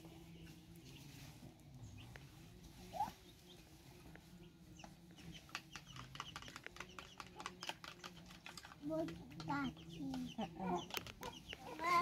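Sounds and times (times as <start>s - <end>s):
chicken clucking: 0.2s - 12.0s.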